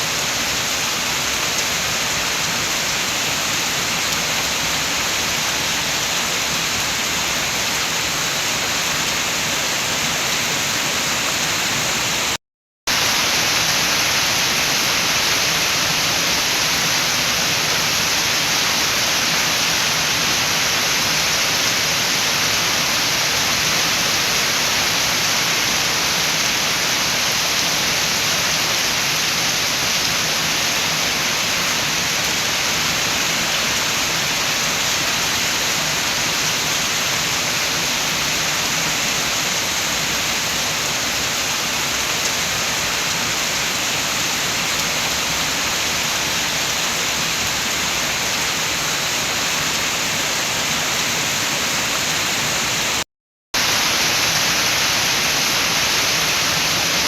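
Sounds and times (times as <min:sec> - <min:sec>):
rain and wind hiss: 0:00.0 - 0:53.0, 0:53.6 - 0:57.0.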